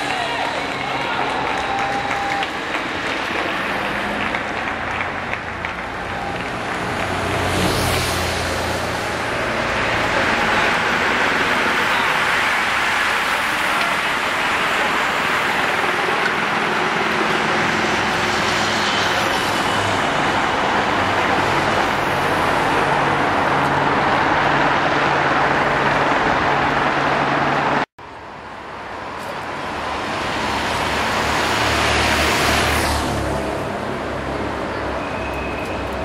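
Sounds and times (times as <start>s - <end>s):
motor vehicle engines: 0.0s - 36.0s.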